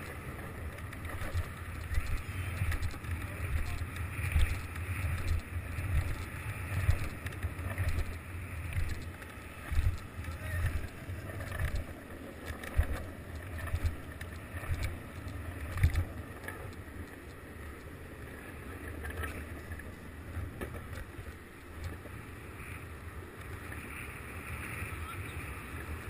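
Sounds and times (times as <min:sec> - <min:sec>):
wheels knocking over cracks: 0:00.0 - 0:22.6
skateboard wheels rolling on asphalt: 0:00.0 - 0:26.0.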